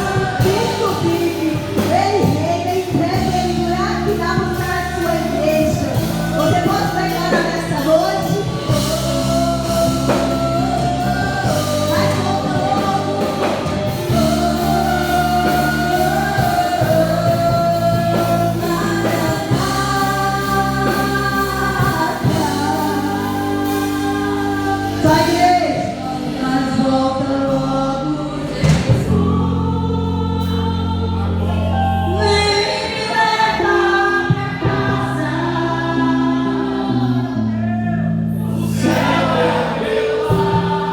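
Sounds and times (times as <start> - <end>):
band playing chords with bass: 0.0 - 40.9
singers singing: 0.0 - 40.9.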